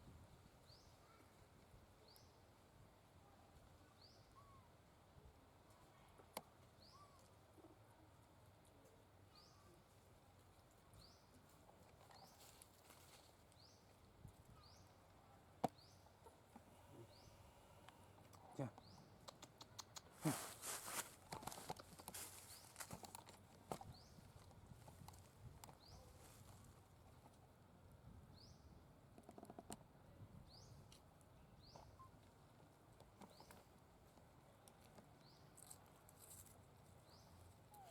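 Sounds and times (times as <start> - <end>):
faint outdoor ambience: 0.0 - 37.9.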